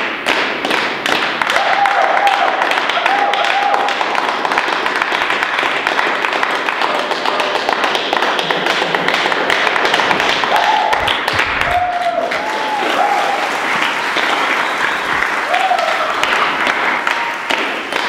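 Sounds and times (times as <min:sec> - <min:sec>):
people applauding: 0:00.0 - 0:18.0.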